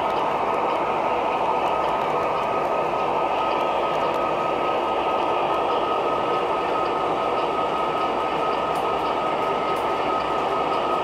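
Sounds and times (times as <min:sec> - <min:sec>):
model train rumbling on track: 0:00.0 - 0:11.0.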